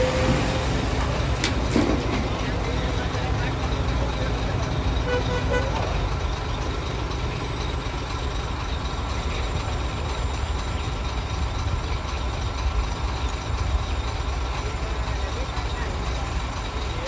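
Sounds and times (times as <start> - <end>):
diesel engines rumbling: 0.0 - 17.0.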